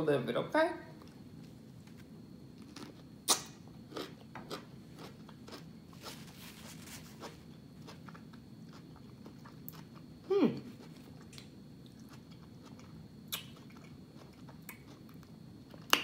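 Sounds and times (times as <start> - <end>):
cucumber crunching and chewing: 2.6 - 16.0.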